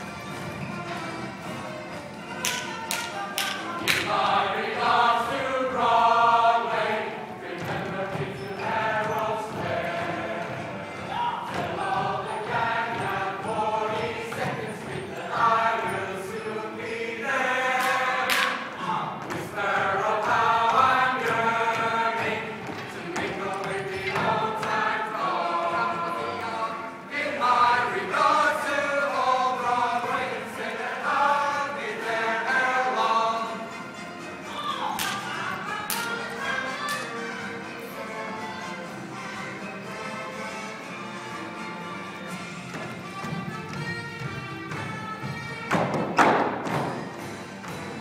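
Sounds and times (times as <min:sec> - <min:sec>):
chorus singing: 0:00.0 - 0:48.0.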